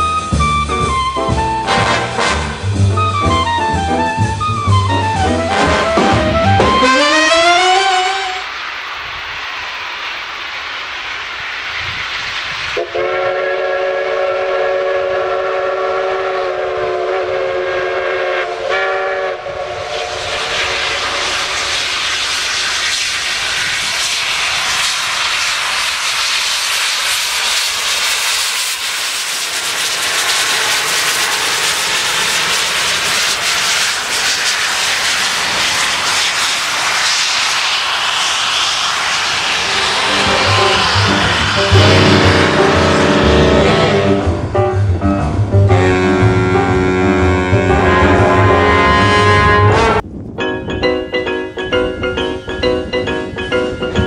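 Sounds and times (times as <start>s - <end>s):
steam whistle blast: 0.0s - 8.7s, 12.8s - 44.8s, 45.6s - 50.0s
steam locomotive hiss and exhaust: 0.0s - 50.2s.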